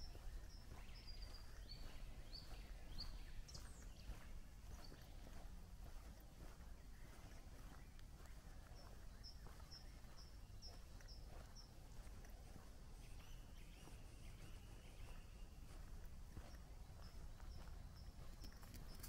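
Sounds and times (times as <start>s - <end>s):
bird chirping: 0.0s - 19.0s
soft footsteps: 0.0s - 19.0s.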